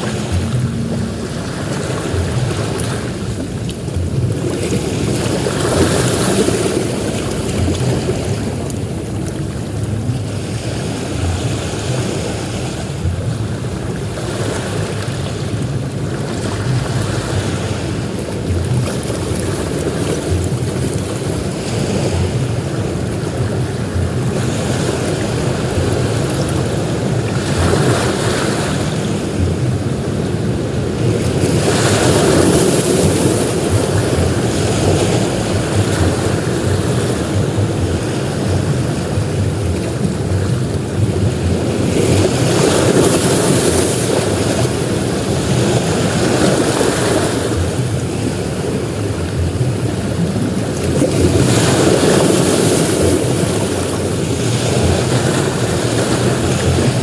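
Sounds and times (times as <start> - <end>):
sea waves breaking on beach: 0.0 - 57.0.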